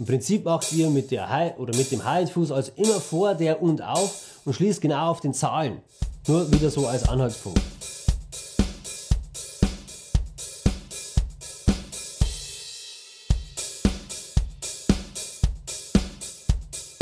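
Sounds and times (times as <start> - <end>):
drum kit rock groove: 0.0 - 4.6, 5.8 - 17.0.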